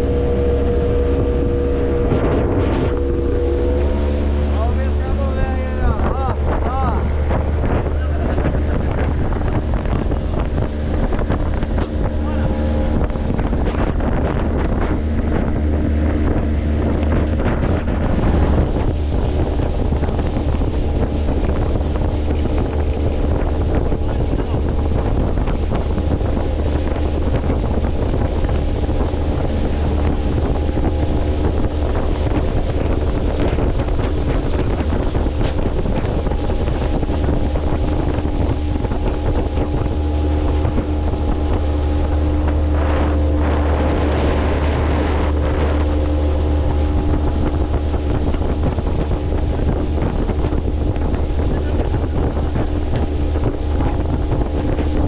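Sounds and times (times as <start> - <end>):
boat motor running: 0.0 - 55.0
wind buffeting microphone: 0.0 - 55.0.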